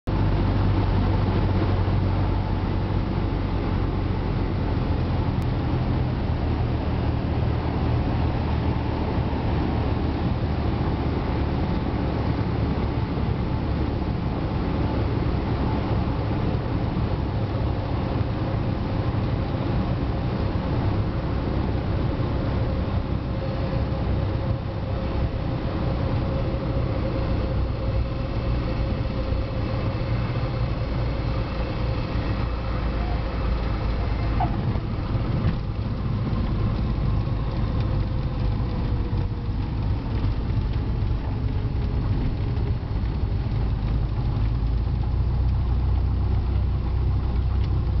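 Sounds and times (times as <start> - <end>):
wind noise in cabin: 0.0 - 48.0
light aircraft engine and propeller drone: 0.1 - 48.0.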